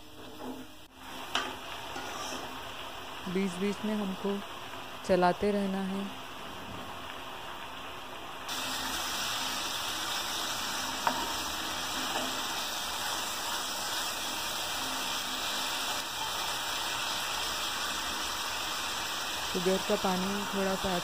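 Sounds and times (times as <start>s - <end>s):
mixture sizzling in a frying pan: 0.8s - 21.0s.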